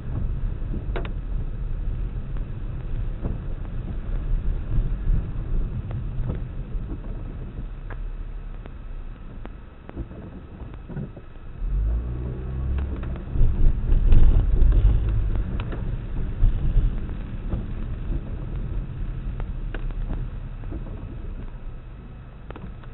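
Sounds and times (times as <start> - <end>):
car engine and road noise: 0.0 - 22.9.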